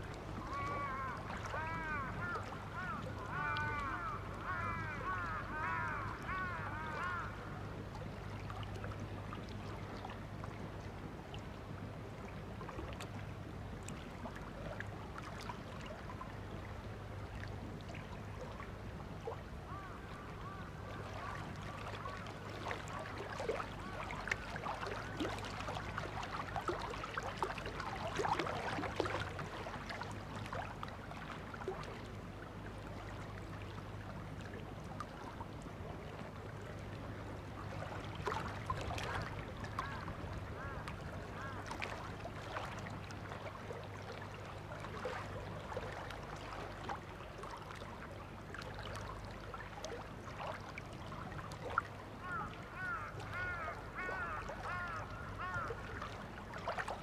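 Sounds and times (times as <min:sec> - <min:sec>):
water lapping: 0:00.0 - 0:57.0.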